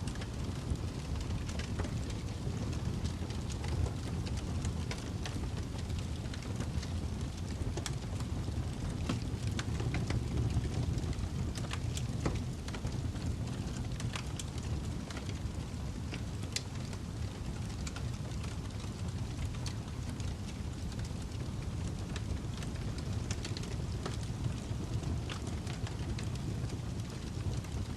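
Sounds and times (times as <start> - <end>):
burning wood crackling and popping: 0.0 - 27.9
fire rumbling: 0.0 - 27.9.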